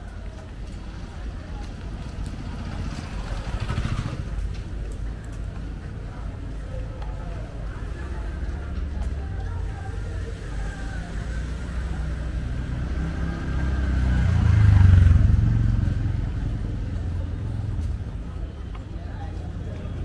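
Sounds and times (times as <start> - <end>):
vehicle engine rumble passing: 0.0 - 5.3, 7.9 - 20.0
steady traffic noise: 0.0 - 20.0
voices: 0.0 - 20.0.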